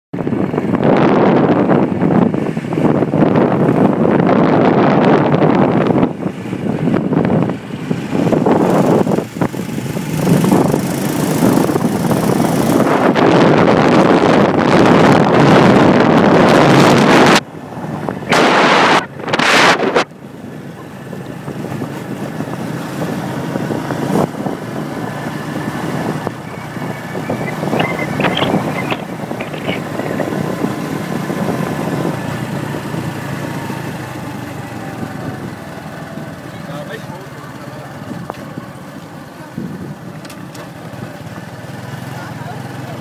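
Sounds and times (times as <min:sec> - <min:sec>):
road noise: 0:00.1 - 0:43.0
wind buffeting microphone: 0:00.2 - 0:42.0
vehicle engine: 0:00.2 - 0:43.0.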